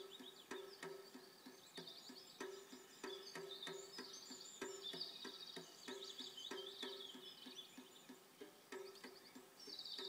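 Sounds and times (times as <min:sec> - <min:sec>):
faint rhythmic music: 0:00.0 - 0:10.0
high chirping sounds: 0:00.0 - 0:10.0.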